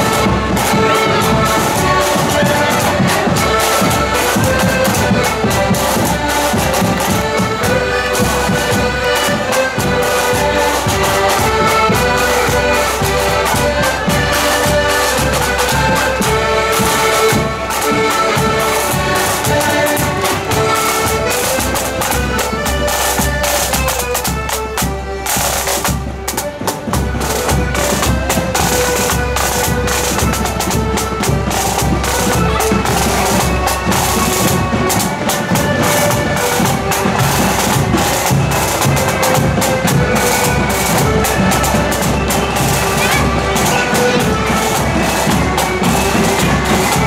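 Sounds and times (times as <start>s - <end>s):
accordion band playing: 0.0s - 47.0s.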